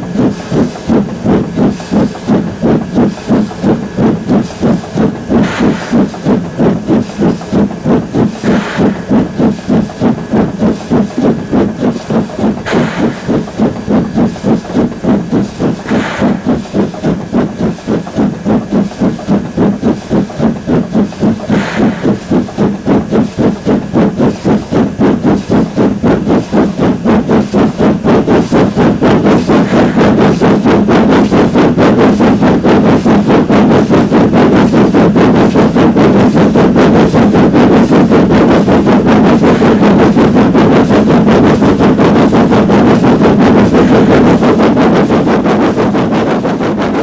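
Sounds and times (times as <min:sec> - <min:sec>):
rushes of noise: 0:00.0 - 0:47.0
steam locomotive chuffing: 0:00.0 - 0:47.0.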